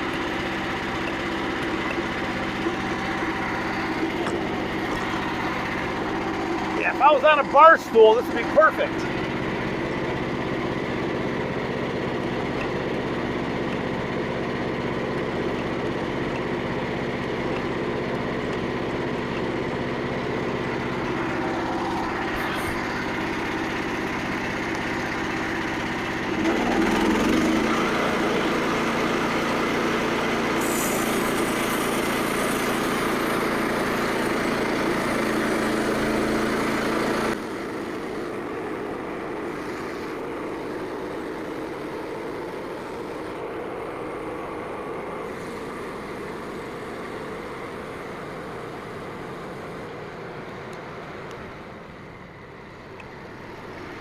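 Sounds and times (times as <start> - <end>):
small gas engine running: 0.0 - 54.0.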